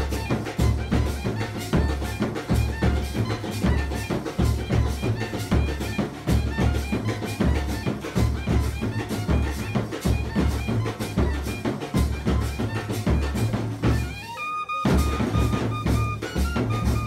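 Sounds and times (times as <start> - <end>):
music with drum beat and bass: 0.0 - 17.0.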